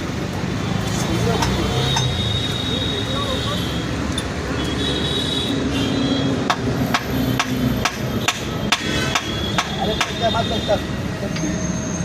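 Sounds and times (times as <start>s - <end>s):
traffic hum: 0.0s - 12.0s
workshop noise: 0.0s - 12.0s.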